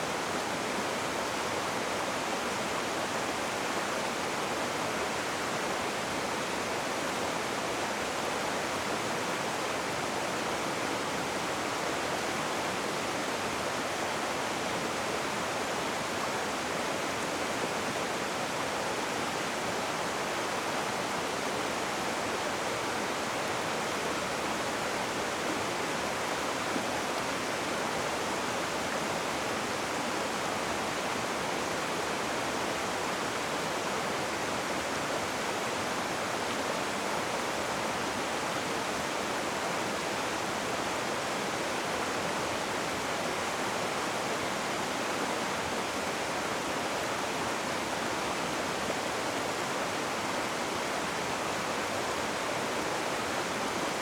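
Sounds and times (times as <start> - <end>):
rushing river water: 0.0 - 54.0.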